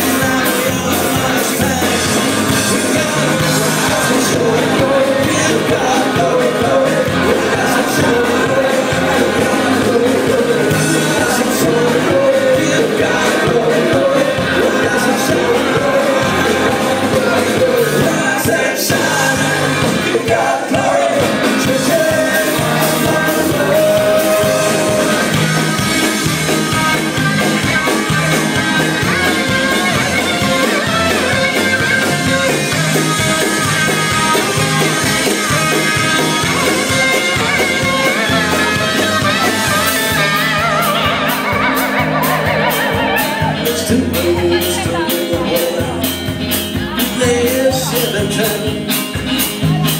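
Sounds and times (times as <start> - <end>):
live country band playing: 0.0 - 49.9
person singing: 0.0 - 49.9.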